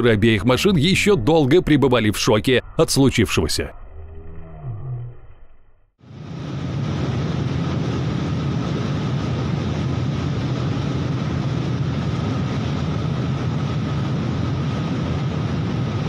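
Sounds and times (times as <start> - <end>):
avalanche rumbling rush: 0.0 - 16.0.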